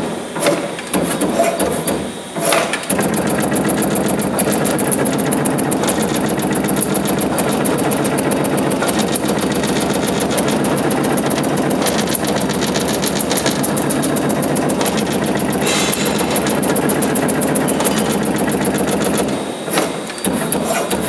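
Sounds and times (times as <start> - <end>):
punch press punching sheet metal: 0.0 - 21.0.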